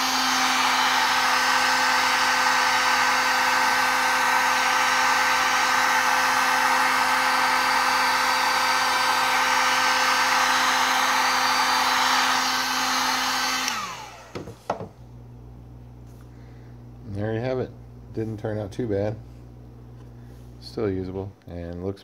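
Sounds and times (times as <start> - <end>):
heat gun fan whirring: 0.0 - 21.9.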